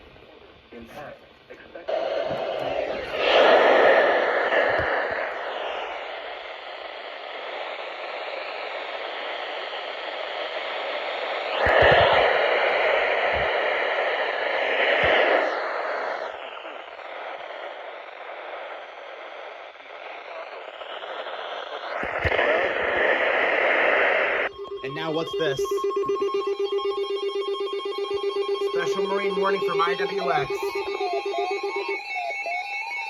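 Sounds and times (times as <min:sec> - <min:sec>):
radio static hiss: 0:00.0 - 0:27.1, 0:28.6 - 0:33.0.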